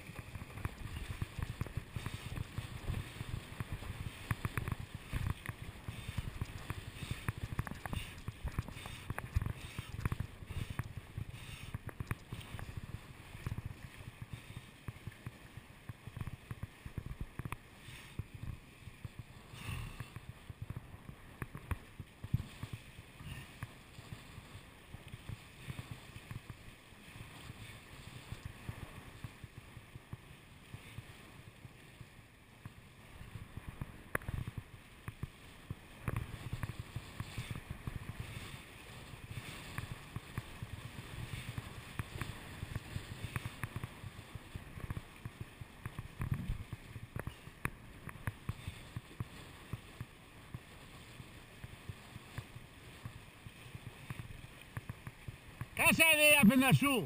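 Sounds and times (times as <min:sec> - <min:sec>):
wind rumble on microphone: 0:00.0 - 0:17.6, 0:18.2 - 0:55.8
board slapping on choppy water: 0:00.0 - 0:57.0.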